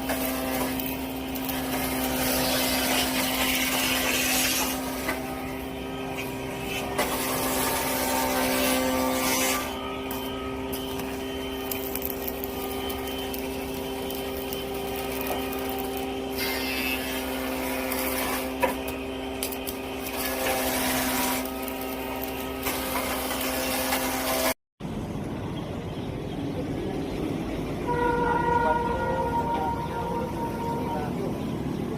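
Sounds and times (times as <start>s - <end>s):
metalworking equipment humming: 0.0s - 31.9s.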